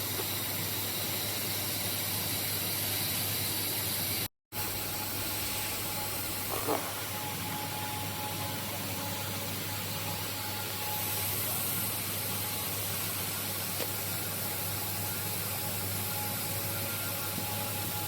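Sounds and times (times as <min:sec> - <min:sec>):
woodworking machine hiss and hum: 0:00.0 - 0:18.0.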